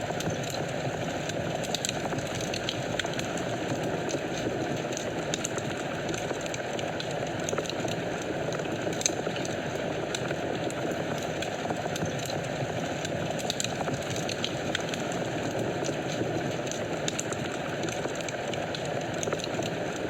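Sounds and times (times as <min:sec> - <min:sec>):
fire crackles and pops: 0:00.0 - 0:20.0
flames rushing: 0:00.0 - 0:20.0.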